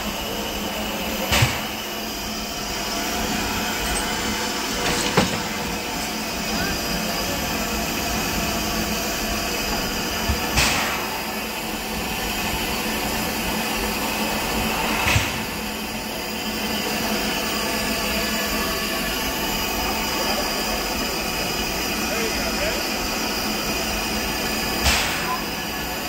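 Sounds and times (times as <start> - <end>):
steam hissing from locomotive: 0.0 - 26.0.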